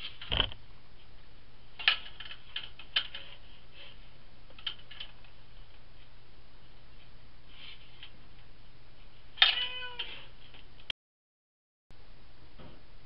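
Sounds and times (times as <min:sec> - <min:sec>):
faint low hum: 0:00.0 - 0:10.9, 0:11.9 - 0:13.0.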